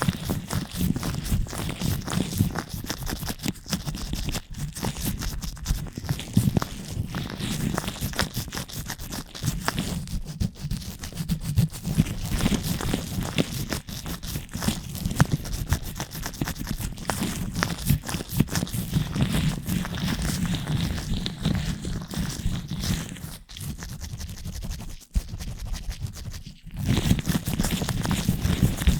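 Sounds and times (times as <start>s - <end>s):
gloved fingers rubbing microphone: 0.0s - 28.9s.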